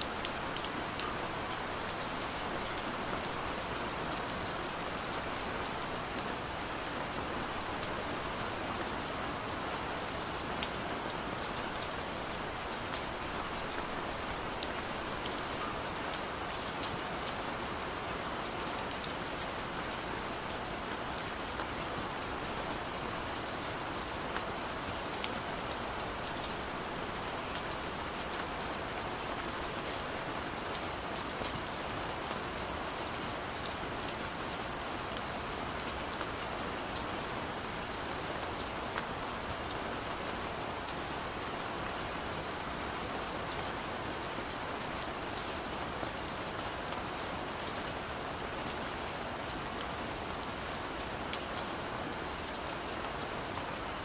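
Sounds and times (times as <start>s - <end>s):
gentle rain hiss: 0.0s - 54.0s.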